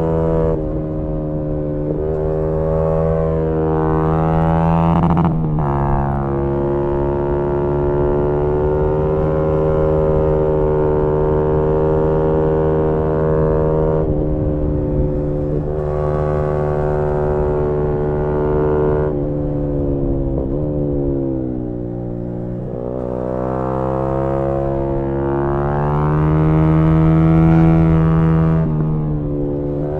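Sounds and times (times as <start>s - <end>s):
motorcycle engine at high revs: 0.0s - 29.9s.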